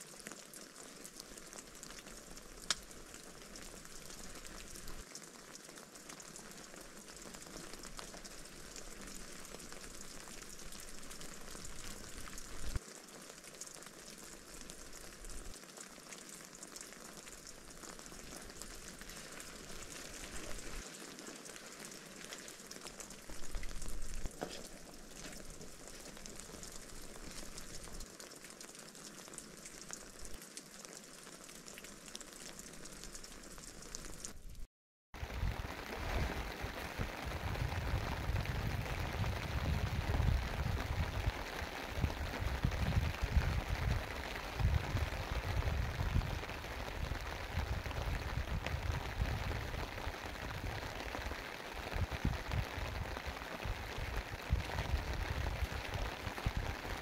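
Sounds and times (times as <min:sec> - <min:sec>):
rain and wet snow on a tarp: 0:00.0 - 0:57.0.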